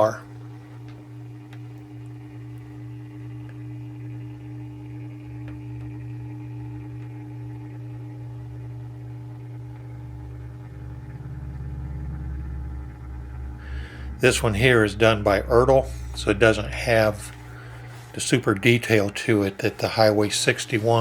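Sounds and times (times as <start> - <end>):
electric motor hum: 0.0 - 21.0.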